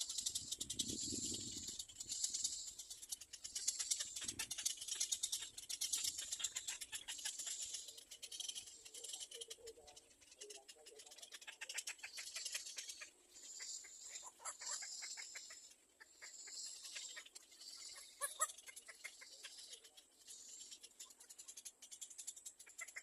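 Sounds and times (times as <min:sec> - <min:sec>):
baby birds begging calls: 0:00.0 - 0:23.0.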